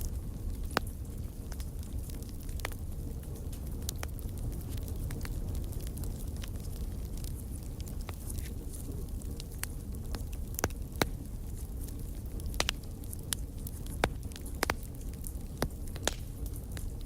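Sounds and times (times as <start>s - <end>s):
campfire crackles and pops: 0.0s - 17.0s
low rumble of flames: 0.0s - 17.0s.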